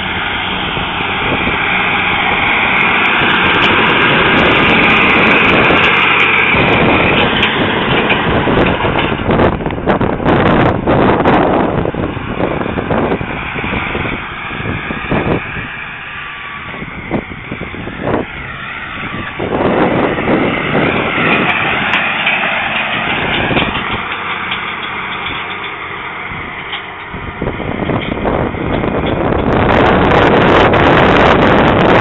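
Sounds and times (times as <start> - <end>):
tractor diesel engine working: 0.0 - 32.0.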